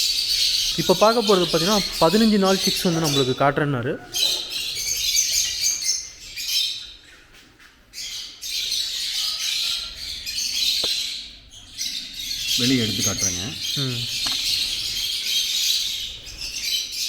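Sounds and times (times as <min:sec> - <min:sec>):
lovebirds chattering and squawking: 0:00.0 - 0:17.0.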